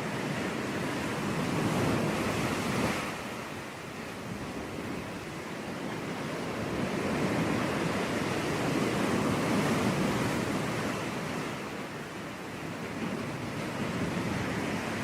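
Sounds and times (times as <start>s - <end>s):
sea waves breaking on beach: 0.0s - 15.0s.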